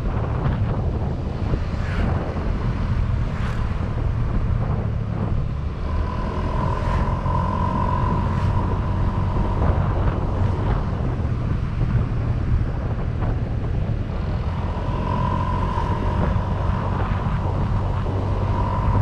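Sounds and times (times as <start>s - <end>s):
high whine: 0.0s - 19.0s
scooter engine rumbling: 3.8s - 19.0s.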